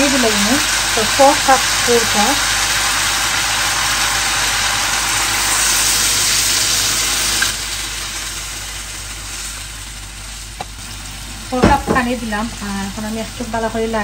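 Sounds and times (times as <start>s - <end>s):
loud steady sizzle: 0.0s - 14.0s.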